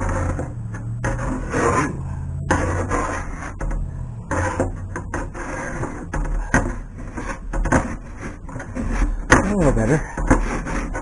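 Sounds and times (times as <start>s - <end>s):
paint scraping off metal: 0.0s - 11.0s
steady low hum: 0.0s - 11.0s.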